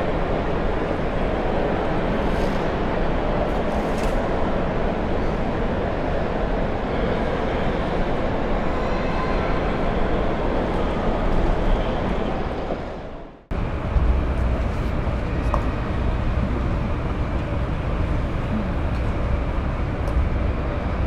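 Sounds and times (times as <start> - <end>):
concourse hubbub: 0.0 - 21.0.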